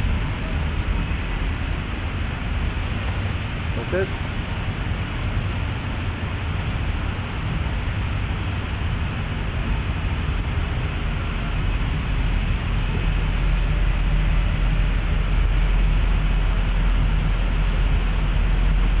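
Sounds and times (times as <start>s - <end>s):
industrial machine hiss and rumble: 0.0s - 19.0s.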